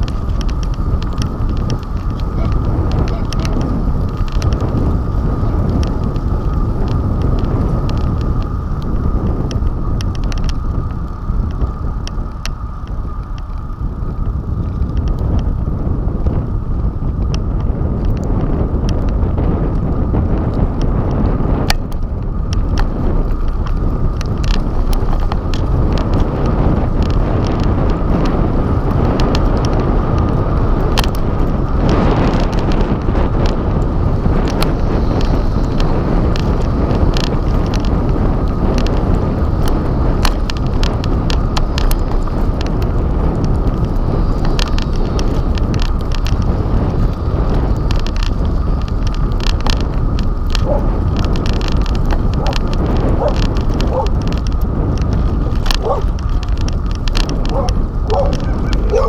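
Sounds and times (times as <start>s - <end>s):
bicycle clicks and rattles: 0.0s - 59.0s
bicycle road rumble: 0.0s - 59.0s
wind on microphone: 0.0s - 59.0s.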